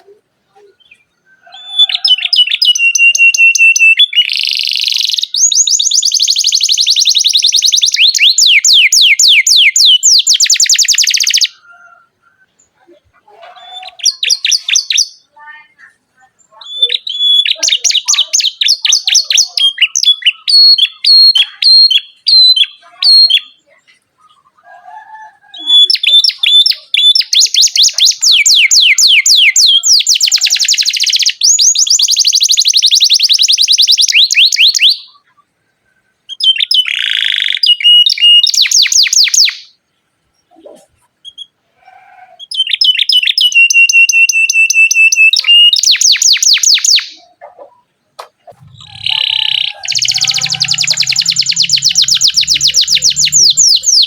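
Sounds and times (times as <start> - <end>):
canary singing trills: 0.0 - 35.5, 36.3 - 39.8, 40.4 - 54.0.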